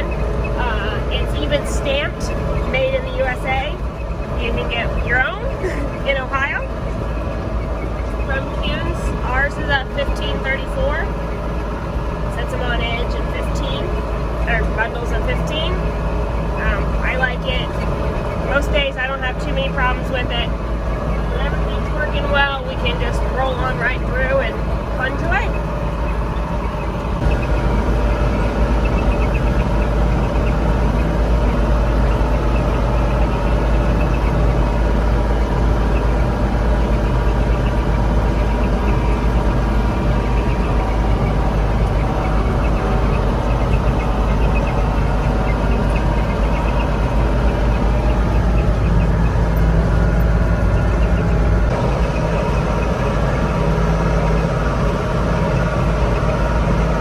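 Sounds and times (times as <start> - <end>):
baler working: 0.0 - 57.0
tractor engine under load: 0.0 - 57.0.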